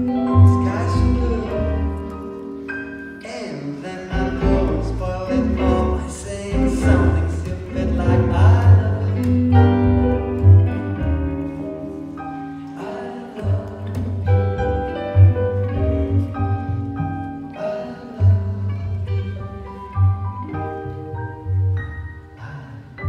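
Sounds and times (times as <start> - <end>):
plucked double bass: 0.0 - 2.4, 4.1 - 12.2, 13.4 - 22.2.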